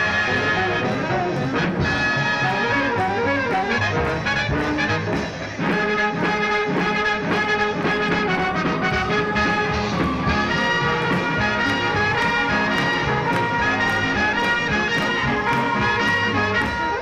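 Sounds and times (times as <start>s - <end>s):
swing jazz with brass: 0.0s - 17.0s.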